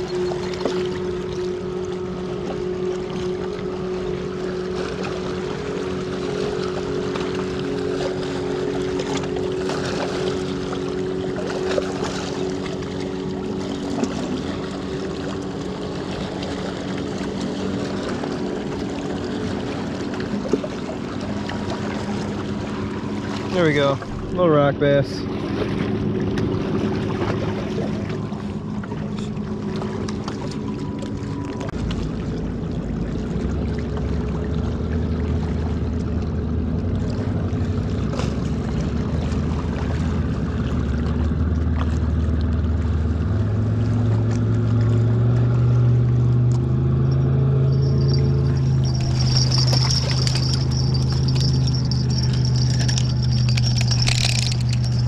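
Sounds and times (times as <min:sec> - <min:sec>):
motorboat engine droning: 0:00.0 - 0:55.0.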